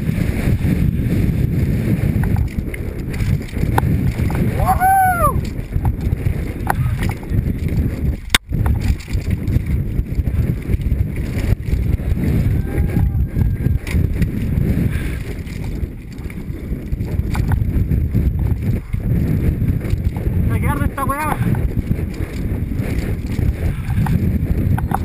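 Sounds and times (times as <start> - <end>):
wind buffeting microphone: 0.0 - 25.0
bike rattling over rocks: 0.1 - 25.0.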